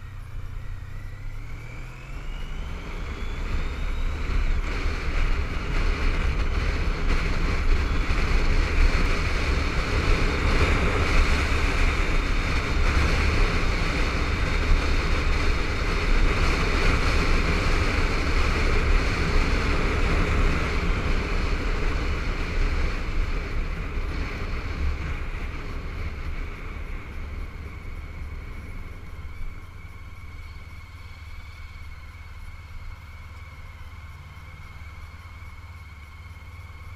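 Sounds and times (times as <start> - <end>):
wind buffeting microphone: 0.0 - 34.8
motorcycle engine running: 0.0 - 36.9.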